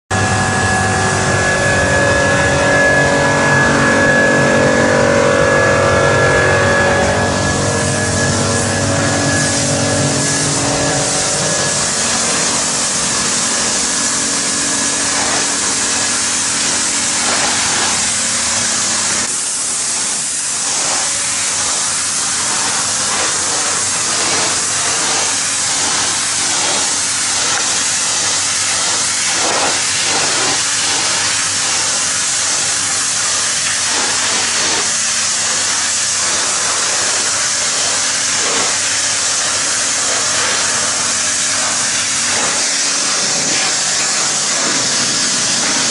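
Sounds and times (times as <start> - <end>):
machine hum: 0.1 - 45.9
pressure washer spray hissing: 0.8 - 45.9.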